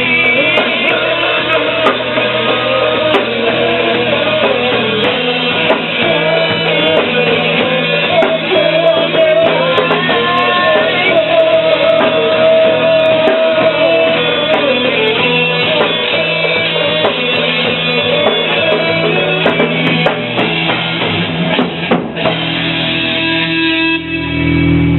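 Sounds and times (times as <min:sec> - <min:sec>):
rock music with drums and guitars: 0:00.0 - 0:24.9
wavering melodic lead line: 0:00.0 - 0:24.9.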